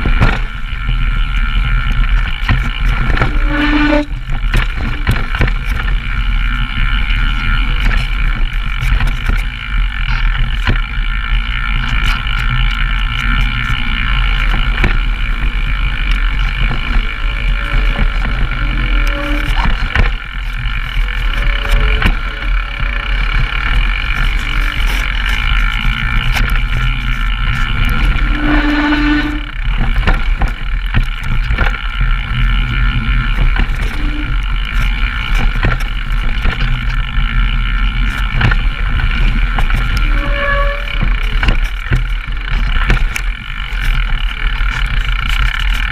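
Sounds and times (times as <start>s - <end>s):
bike rattling over rough ground: 0.0s - 45.9s
steady buzz: 0.0s - 45.9s
wind rumble on microphone: 0.0s - 45.9s.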